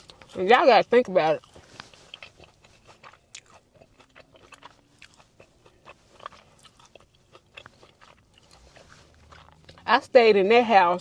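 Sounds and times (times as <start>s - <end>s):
person chewing food: 0.0s - 9.9s.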